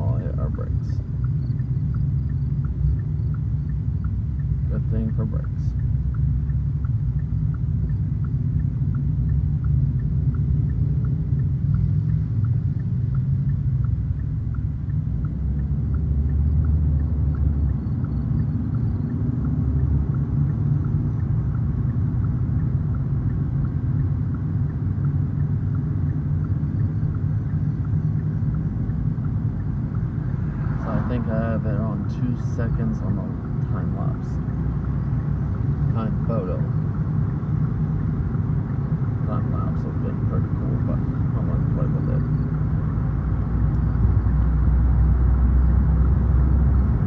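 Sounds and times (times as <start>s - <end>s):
faint regular ticking: 0.0s - 47.0s
vehicle rumble at road speed: 0.0s - 47.0s.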